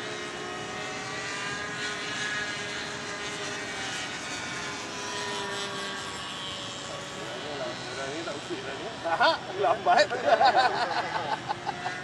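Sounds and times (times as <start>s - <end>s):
model airplane motor droning: 0.0s - 12.0s.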